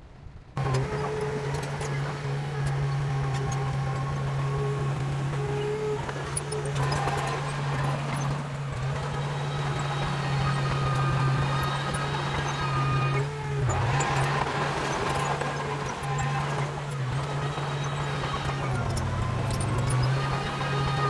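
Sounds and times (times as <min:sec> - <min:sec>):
heavy diesel engine droning: 0:00.6 - 0:21.0.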